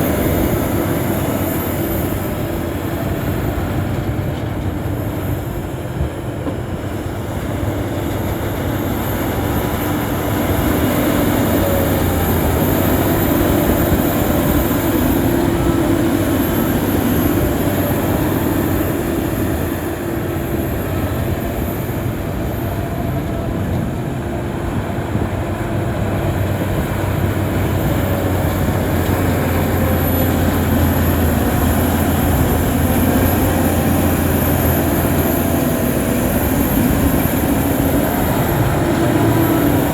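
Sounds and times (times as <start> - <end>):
bulldozer diesel engine running: 0.0 - 39.9
heavy machinery track noise: 0.0 - 39.9.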